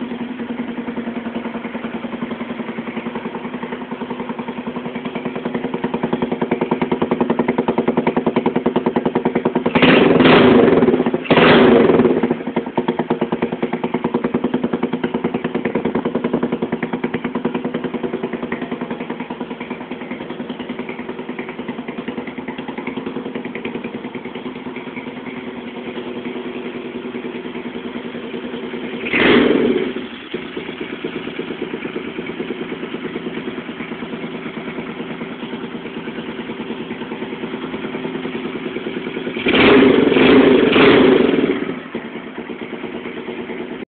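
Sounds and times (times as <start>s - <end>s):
scooter engine idling and revving: 0.0s - 43.9s.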